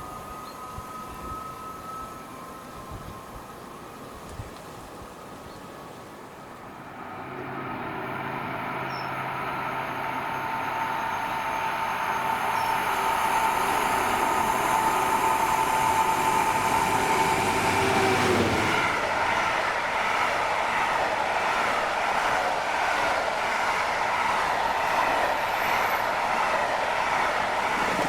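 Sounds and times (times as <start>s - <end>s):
high train whine: 0.0s - 28.0s
train rumble: 0.0s - 28.0s.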